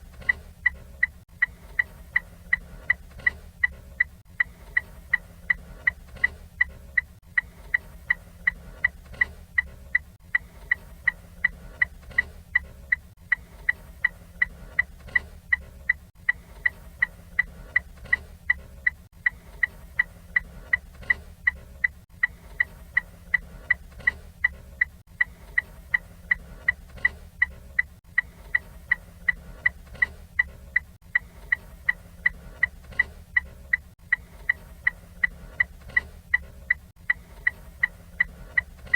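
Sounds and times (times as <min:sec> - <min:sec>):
turn signal ticking: 0:00.0 - 0:38.9.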